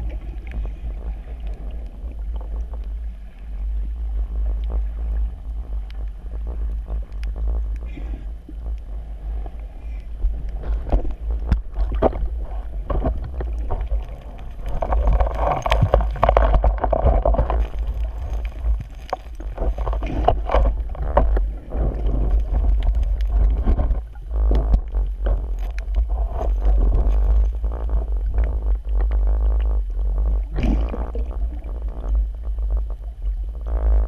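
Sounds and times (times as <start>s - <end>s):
underwater rumble: 0.0s - 34.0s.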